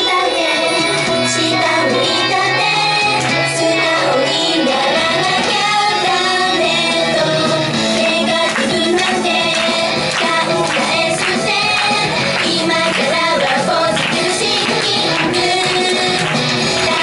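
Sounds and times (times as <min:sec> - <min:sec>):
girls singing pop song: 0:00.0 - 0:17.0
loud backing music: 0:00.0 - 0:17.0.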